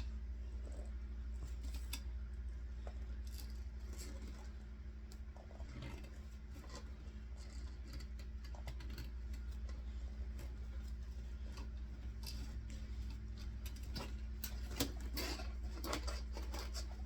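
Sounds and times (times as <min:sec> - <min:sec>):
clicks and rustles of handling: 0:00.0 - 0:17.0
low electrical hum: 0:00.0 - 0:17.0.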